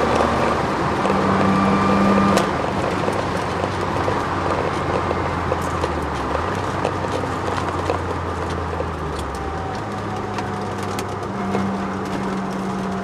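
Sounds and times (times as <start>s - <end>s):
car engine under load: 0.0s - 13.0s
knocks and rattles: 0.0s - 13.0s
road noise: 0.0s - 13.0s.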